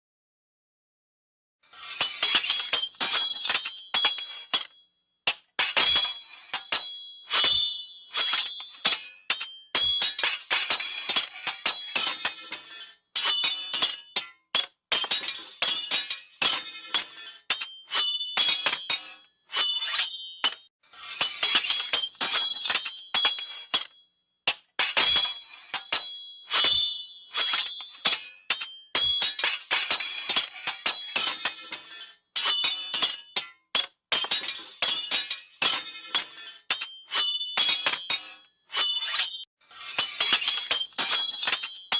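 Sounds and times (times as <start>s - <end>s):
metal sword blades clashing: 1.8s - 41.9s.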